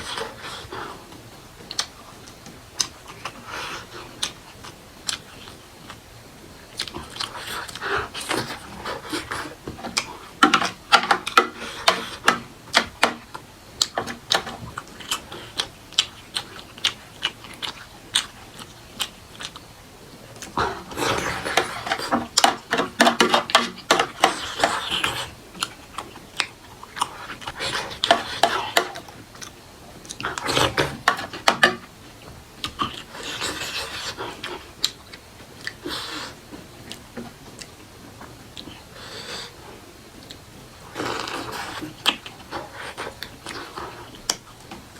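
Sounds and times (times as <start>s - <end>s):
person chewing and mouth smacks: 0.0s - 6.1s, 6.7s - 39.5s, 40.2s - 44.9s.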